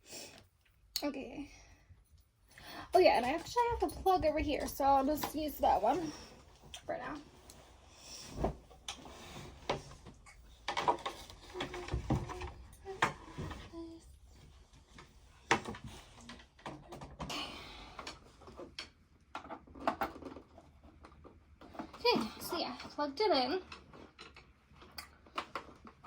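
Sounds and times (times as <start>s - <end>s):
knocks and rustling of handling: 2.2s - 26.0s.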